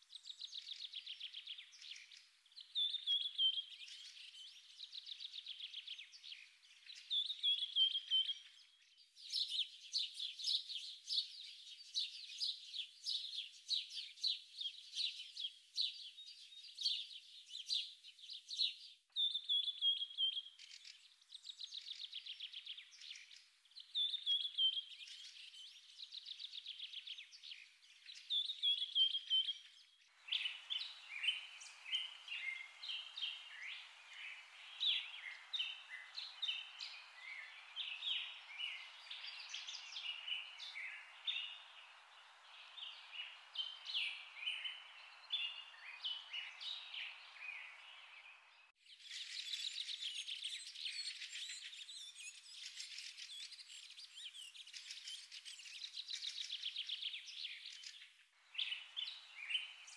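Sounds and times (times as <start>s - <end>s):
bird chorus chirping and singing: 0.1s - 59.9s.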